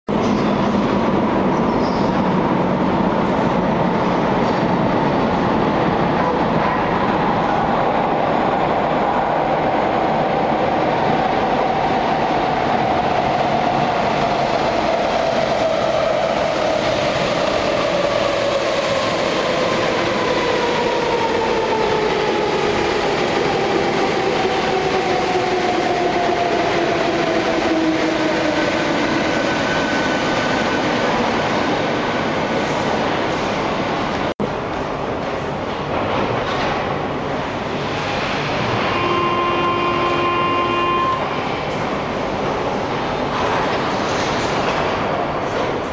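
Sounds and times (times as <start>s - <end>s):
train wheels rumbling on rail: 0.1s - 45.9s.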